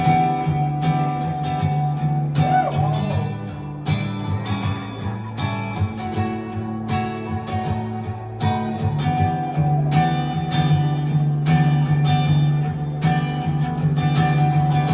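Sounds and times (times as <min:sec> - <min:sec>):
guitar chords ringing: 0:00.0 - 0:14.9.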